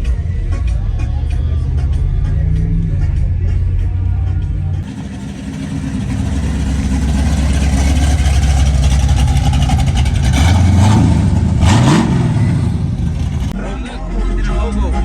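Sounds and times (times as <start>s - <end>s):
vehicle engine running and revving: 0.0s - 13.6s.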